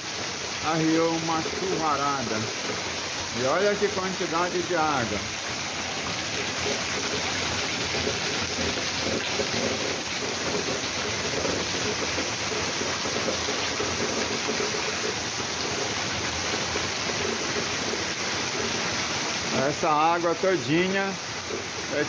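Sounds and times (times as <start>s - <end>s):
water splashing on ground: 0.0s - 20.4s
heavy rain: 0.0s - 22.0s
water pouring from drain spouts: 0.0s - 22.0s.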